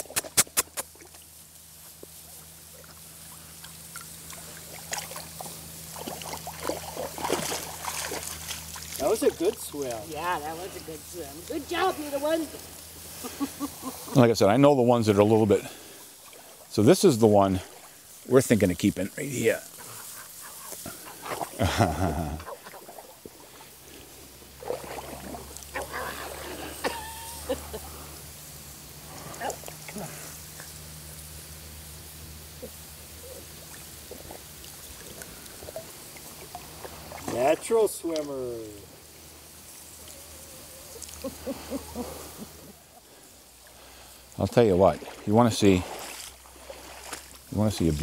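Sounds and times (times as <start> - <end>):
dogs splashing through water: 0.0 - 14.2, 19.6 - 31.2, 32.6 - 38.3, 40.9 - 48.0
steady low hum: 0.0 - 48.0.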